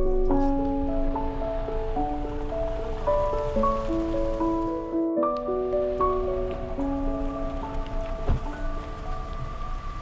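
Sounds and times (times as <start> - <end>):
soft sustained background music: 0.0 - 10.0.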